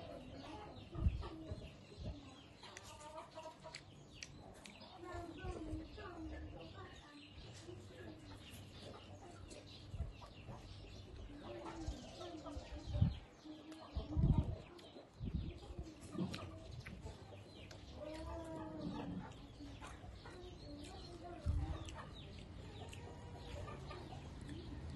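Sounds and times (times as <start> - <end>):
chickens clucking: 0.0 - 24.9
chewing and crunching food: 1.7 - 24.9.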